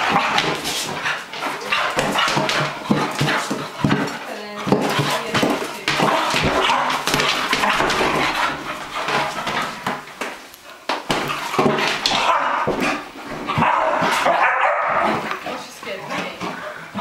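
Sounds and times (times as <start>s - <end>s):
exercise ball knocking and rubbing: 0.0s - 14.4s
dog claws scrambling on tile: 0.0s - 16.8s.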